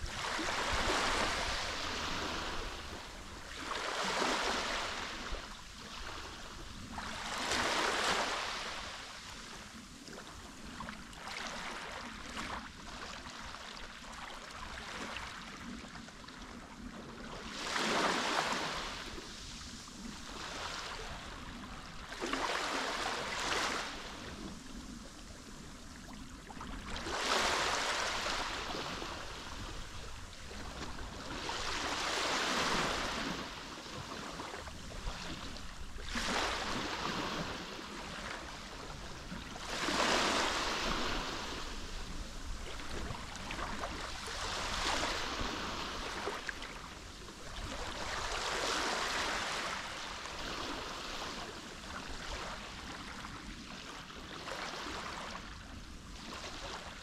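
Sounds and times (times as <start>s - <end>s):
sea waves washing onto shore: 0.0s - 13.3s, 17.4s - 53.6s.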